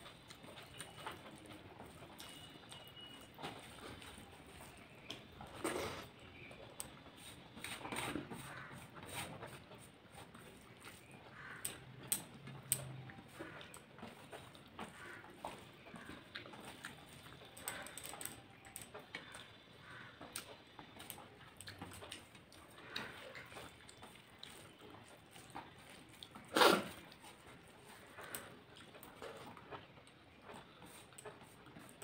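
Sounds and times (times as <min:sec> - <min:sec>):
chewing with wet mouth clicks: 0:00.1 - 0:07.0, 0:10.6 - 0:19.6, 0:20.2 - 0:32.0.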